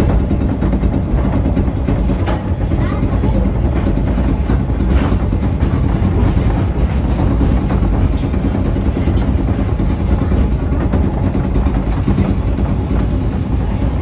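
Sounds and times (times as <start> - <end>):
train rumbling: 0.0 - 14.0
wheel clacks: 0.0 - 14.0.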